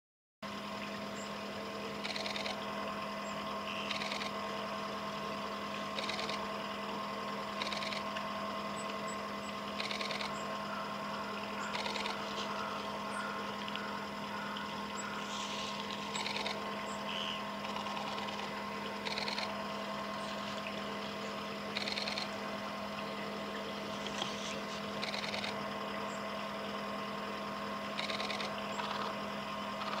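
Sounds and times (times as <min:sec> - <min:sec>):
steady low hum: 0:00.4 - 0:30.0.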